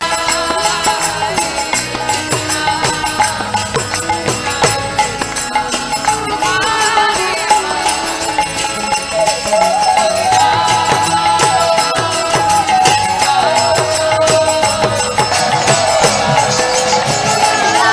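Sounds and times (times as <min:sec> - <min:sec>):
devotional music melody: 0:00.0 - 0:17.9
steady percussion beat: 0:00.0 - 0:17.9.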